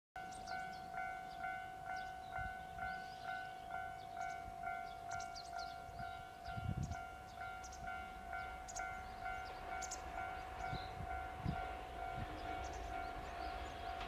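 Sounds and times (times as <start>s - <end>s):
level crossing warning bell: 0.2s - 14.0s
small birds chirping: 0.2s - 14.0s.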